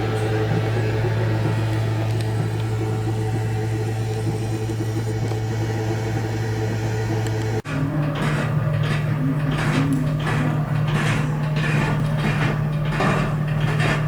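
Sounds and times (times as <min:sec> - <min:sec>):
model diesel engine humming: 0:00.0 - 0:14.0.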